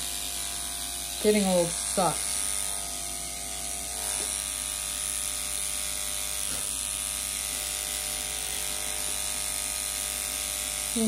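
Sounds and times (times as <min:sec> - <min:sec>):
electric clipper buzzing: 0:00.0 - 0:11.0.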